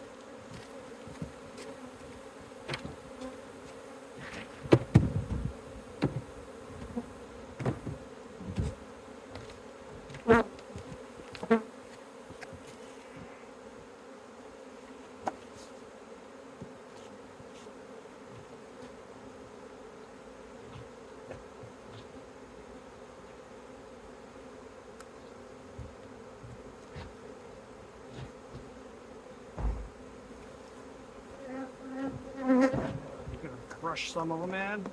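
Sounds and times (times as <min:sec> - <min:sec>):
swarm of bees humming: 0:00.0 - 0:34.9.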